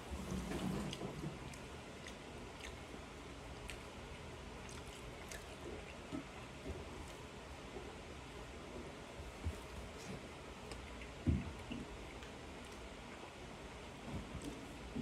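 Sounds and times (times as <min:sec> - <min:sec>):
faint chewing: 0:00.0 - 0:13.3.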